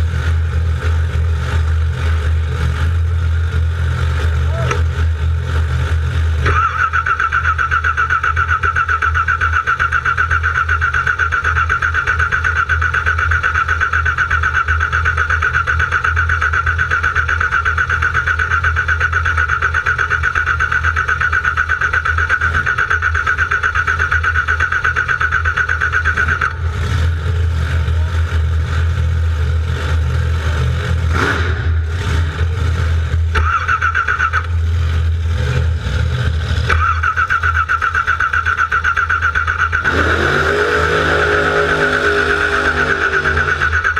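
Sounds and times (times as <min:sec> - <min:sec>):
car engine cranking: 0:00.0 - 0:43.9.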